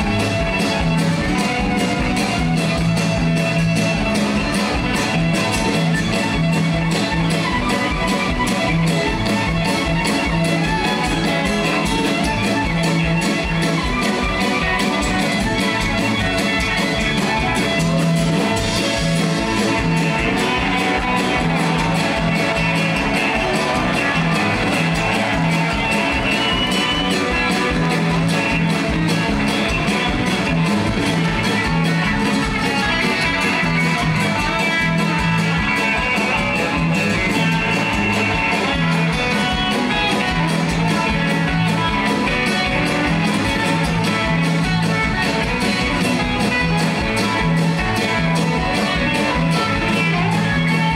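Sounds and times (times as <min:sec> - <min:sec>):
folk-rock band playing a reel: 0:00.0 - 0:50.9.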